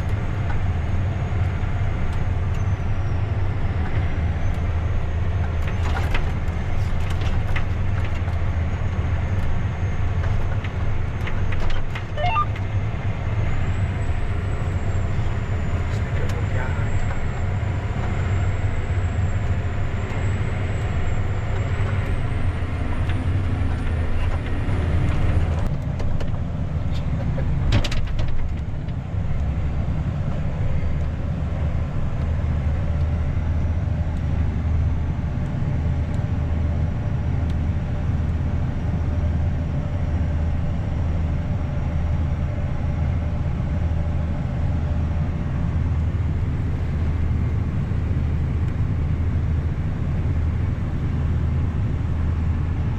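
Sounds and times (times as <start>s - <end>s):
combine harvester drone: 0.0s - 52.9s.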